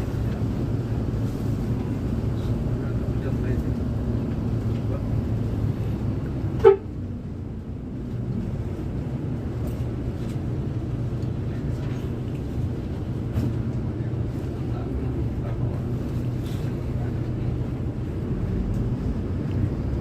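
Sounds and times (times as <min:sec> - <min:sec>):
bus diesel engine idling: 0:00.0 - 0:20.0.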